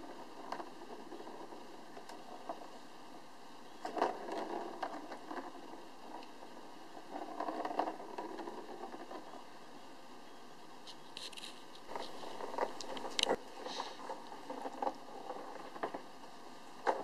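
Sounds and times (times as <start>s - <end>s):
ball rattling around plastic track: 0.0s - 2.8s, 3.8s - 9.5s, 11.2s - 16.2s, 16.8s - 17.0s.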